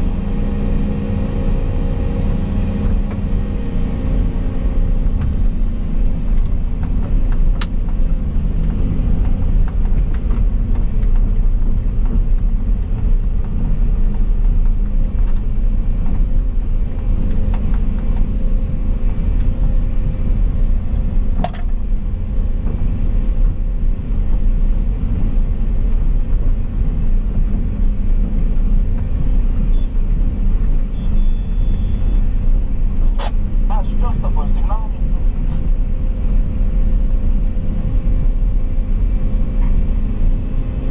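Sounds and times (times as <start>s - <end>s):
excavator diesel engine rumble: 0.0s - 40.9s.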